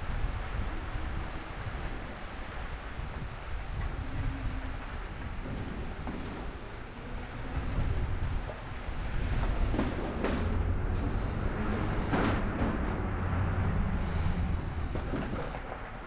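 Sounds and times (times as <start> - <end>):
tyres rolling on trail: 0.0 - 16.0
wind on microphone: 0.0 - 16.0.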